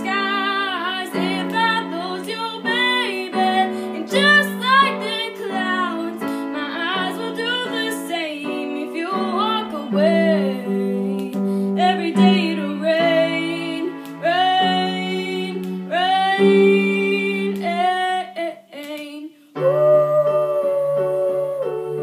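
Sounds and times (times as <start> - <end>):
girl singing wordless notes: 0.0 - 22.0.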